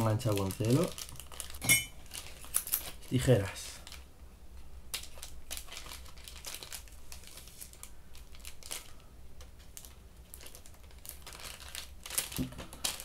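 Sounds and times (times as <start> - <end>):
plastic package crinkling: 0.0 - 4.1, 4.9 - 13.0.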